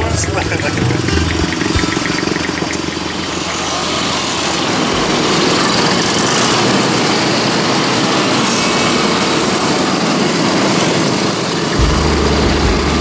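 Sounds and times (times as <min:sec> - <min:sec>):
two-stroke motorcycle engines: 0:00.0 - 0:13.0.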